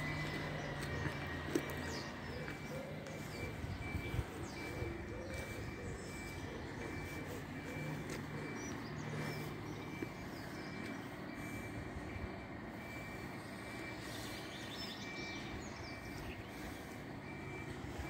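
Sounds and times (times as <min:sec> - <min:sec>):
distant lorry engine running: 0:00.0 - 0:18.0
reversing warning beeps: 0:00.0 - 0:18.0.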